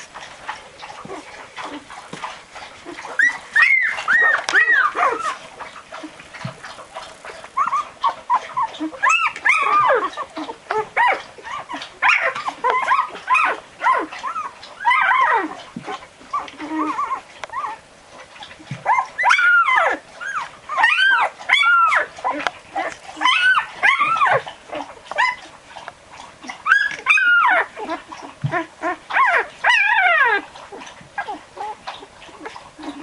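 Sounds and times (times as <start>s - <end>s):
puppies whimpering and squealing: 0.0s - 33.0s.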